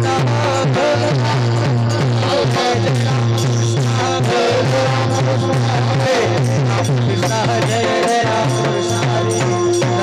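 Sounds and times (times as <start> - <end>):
drum beating steadily: 0.0 - 10.0.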